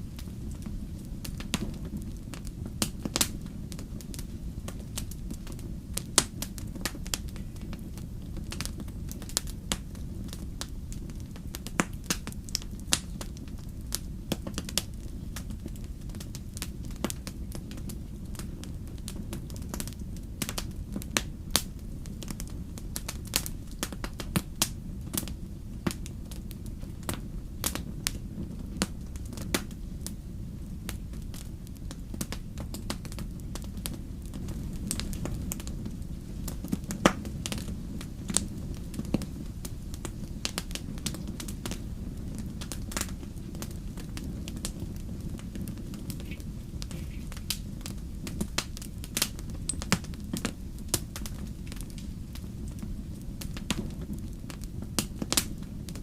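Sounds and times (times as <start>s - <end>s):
fire low rumble: 0.0s - 56.0s
wood fire crackling: 0.0s - 56.0s.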